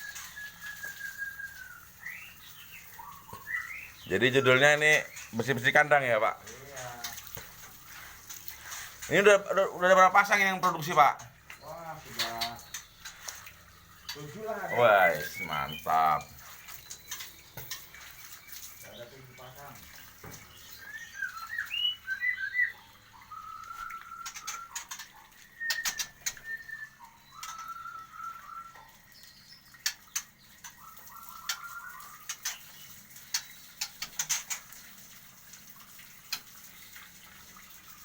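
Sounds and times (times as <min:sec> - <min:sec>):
birds chirping and whistling: 0:00.0 - 0:34.8.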